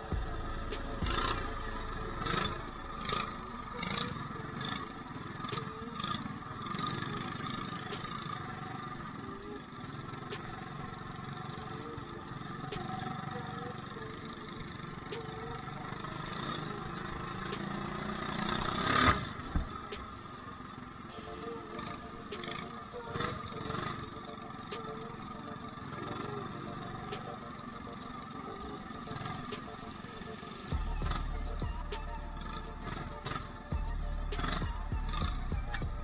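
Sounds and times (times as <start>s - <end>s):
mini bike engine running: 0.0s - 36.0s.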